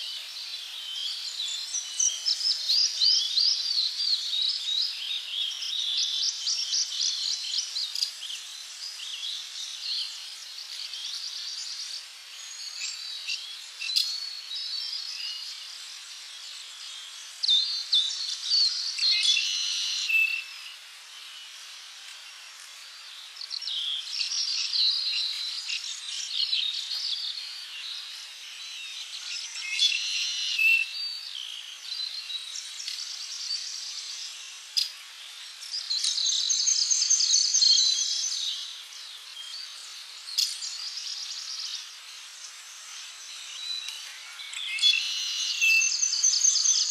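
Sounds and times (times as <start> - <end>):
birds chirping and trilling: 0.0 - 46.9
high insect hiss: 0.0 - 46.9.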